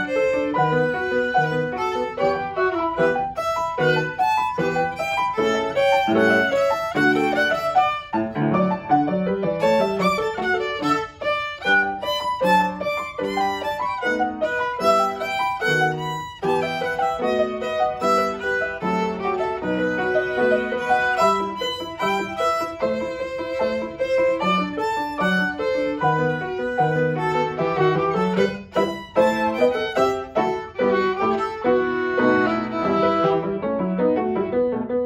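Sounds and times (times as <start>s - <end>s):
violin playing quick notes: 0.0s - 8.2s, 9.6s - 33.4s
grand piano: 0.0s - 35.0s.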